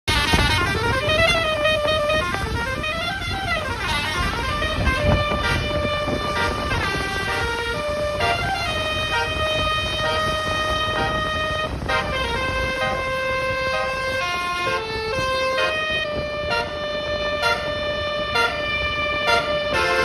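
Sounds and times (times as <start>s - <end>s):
multi-tone bus horn melody: 0.0s - 20.0s.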